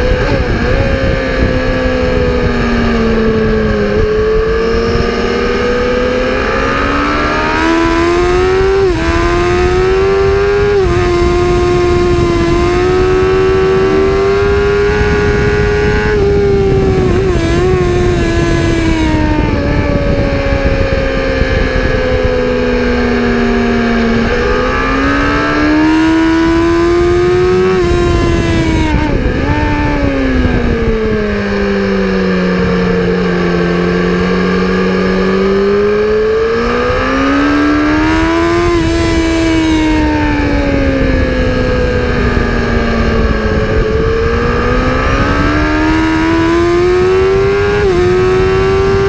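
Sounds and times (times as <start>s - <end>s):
race car engine: 0.0s - 49.0s.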